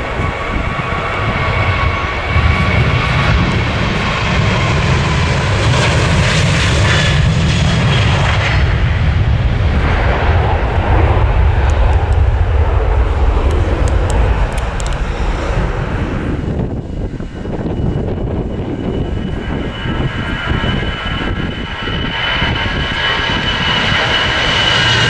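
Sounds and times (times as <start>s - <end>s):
jet engine high hiss: 0.0s - 25.0s
jet engines deep rumble: 0.0s - 25.0s.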